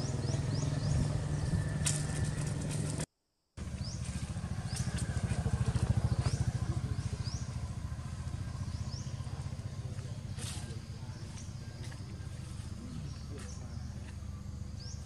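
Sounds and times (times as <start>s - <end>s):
engine running with low pulse: 0.0s - 15.0s.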